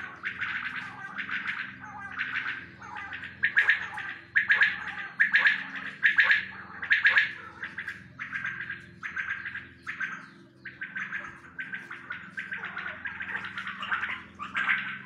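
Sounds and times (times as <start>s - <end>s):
quails rasping calls: 0.0s - 15.0s.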